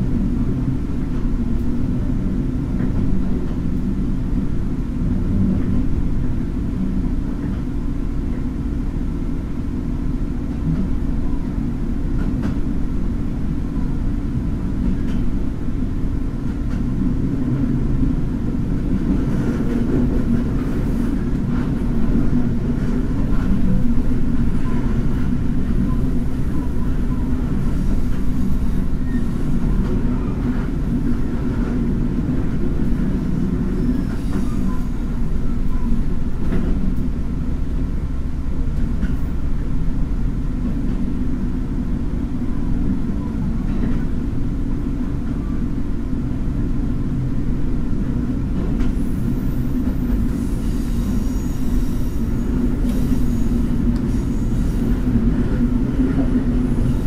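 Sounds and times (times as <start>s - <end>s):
diesel railcar rumble: 0.0s - 57.0s.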